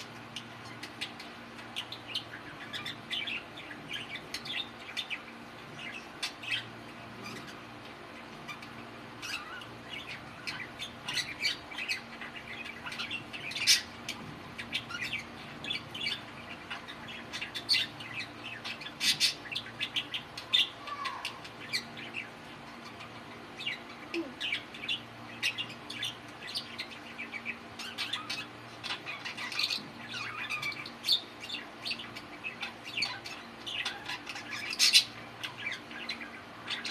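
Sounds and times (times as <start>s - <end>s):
budgerigars chirping and warbling: 0.0s - 36.9s.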